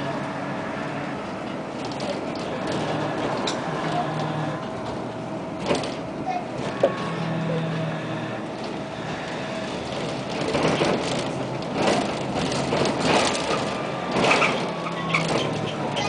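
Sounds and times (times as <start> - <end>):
road noise rumble: 0.0 - 16.0
rattling and clatter: 1.3 - 7.4, 8.4 - 16.0.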